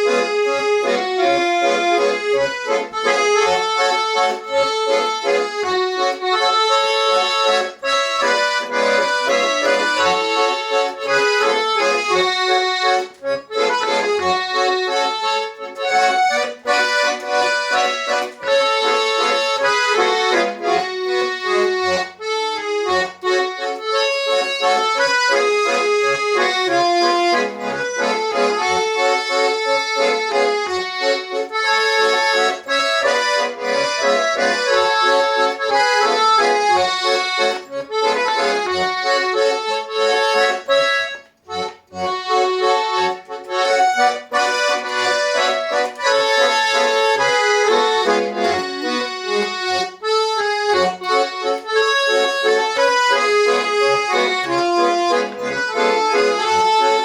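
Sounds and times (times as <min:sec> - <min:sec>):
button accordion playing tune: 0:00.0 - 0:57.0.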